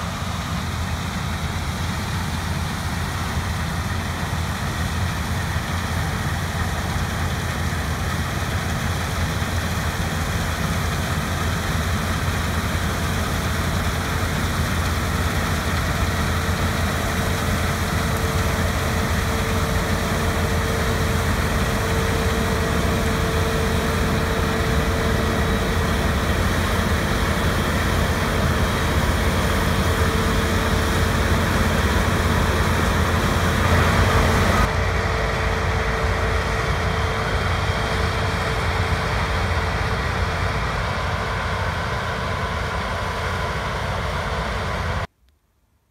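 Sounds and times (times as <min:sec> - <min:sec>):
heavy harvest machinery running: 0:00.0 - 0:45.1.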